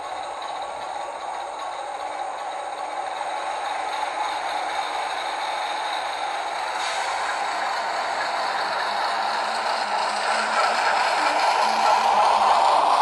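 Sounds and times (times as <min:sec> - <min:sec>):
diesel running sound from small speaker: 0:00.0 - 0:13.0.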